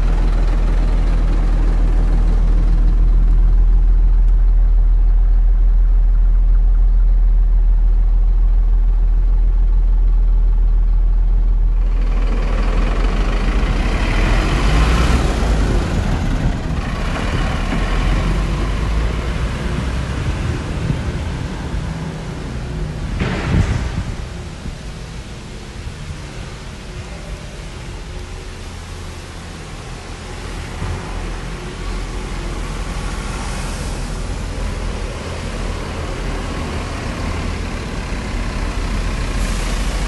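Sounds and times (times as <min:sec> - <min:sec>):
diesel truck engine idling: 0:00.0 - 0:40.0.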